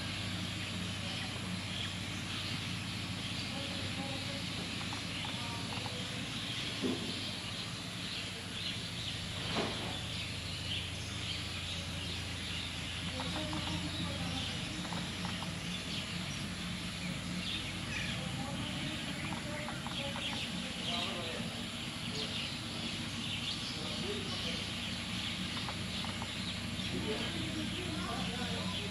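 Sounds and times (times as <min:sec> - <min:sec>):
birds chirping: 0:00.0 - 0:28.9
insects chirping: 0:00.0 - 0:28.9
low steady hum: 0:00.0 - 0:28.9.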